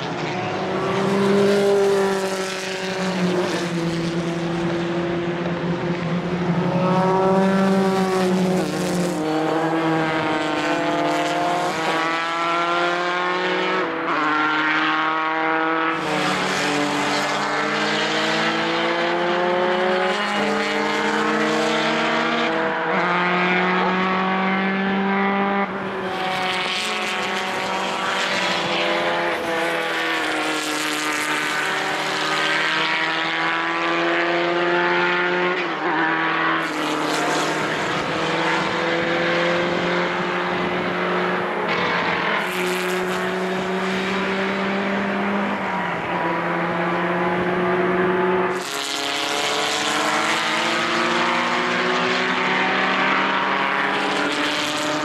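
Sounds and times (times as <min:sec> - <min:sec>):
racing car engines: 0:00.0 - 0:55.0.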